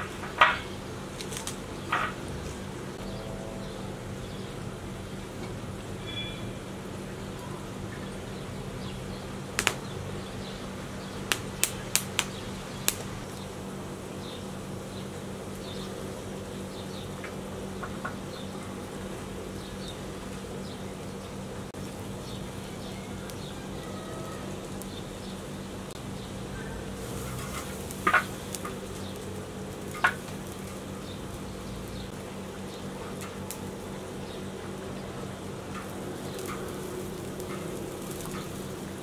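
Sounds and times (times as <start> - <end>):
fire popping: 0.0 - 3.0, 8.0 - 21.1, 21.7 - 39.0
wood fire burning: 0.0 - 3.4, 4.0 - 39.0
steady low hum: 0.0 - 39.0.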